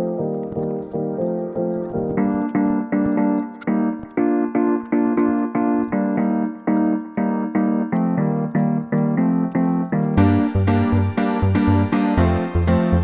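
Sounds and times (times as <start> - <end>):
keyboard playing repeated chords: 0.0 - 13.0.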